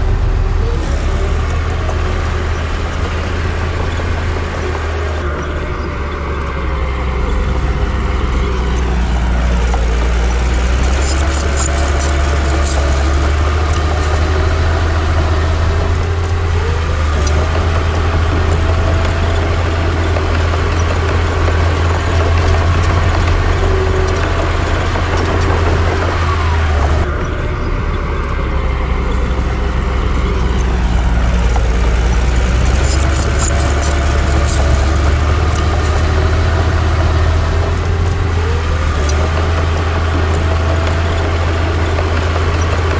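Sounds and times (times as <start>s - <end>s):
metallic clicking: 0.0s - 27.2s, 28.0s - 42.9s
diesel machinery engine hum: 0.0s - 42.9s.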